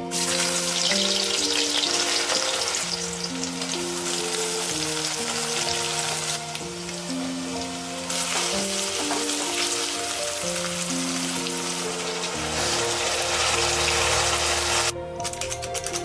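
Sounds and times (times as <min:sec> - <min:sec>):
food frying in hot oil: 0:00.1 - 0:14.9.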